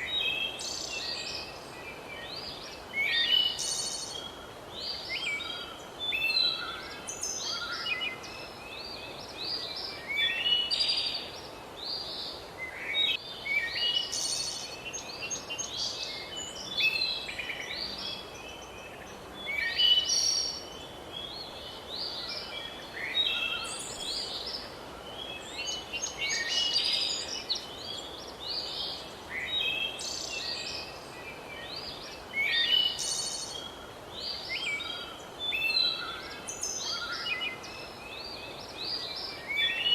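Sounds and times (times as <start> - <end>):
steady background hiss: 0.0 - 39.9
birds chirping and trilling: 2.4 - 39.9.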